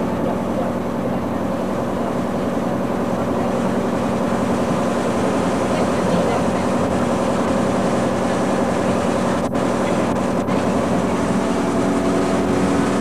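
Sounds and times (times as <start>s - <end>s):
boat engine droning: 0.0s - 13.0s
rushing water and wind: 0.0s - 13.0s.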